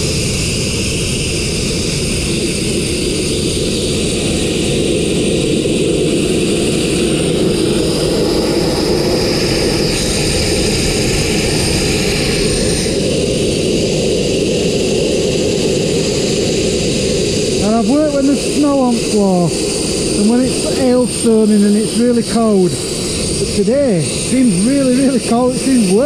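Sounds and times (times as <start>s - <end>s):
abrasive blaster hissing: 0.0s - 26.0s.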